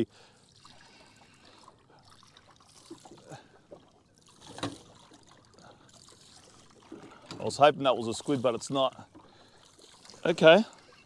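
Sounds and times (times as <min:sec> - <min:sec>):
faint water lapping and trickling: 0:00.0 - 0:11.0.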